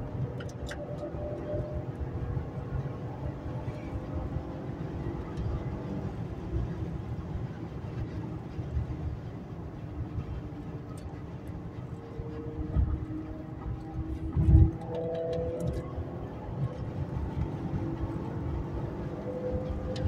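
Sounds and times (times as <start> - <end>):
car engine at highway speed: 0.0 - 20.0
road and tyre rumble: 0.0 - 20.0.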